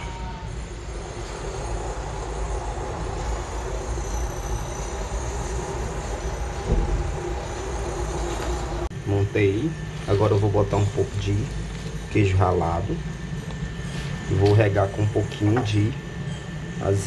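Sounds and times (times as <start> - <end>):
machinery rumble and hiss: 0.0 - 17.0.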